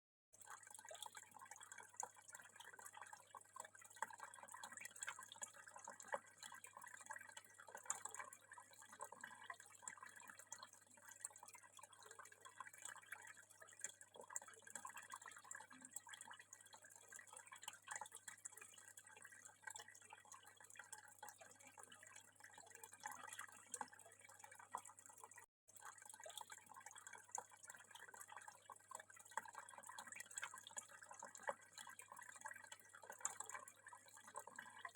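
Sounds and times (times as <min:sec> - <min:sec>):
water trickling and dripping: 0:00.4 - 0:34.9.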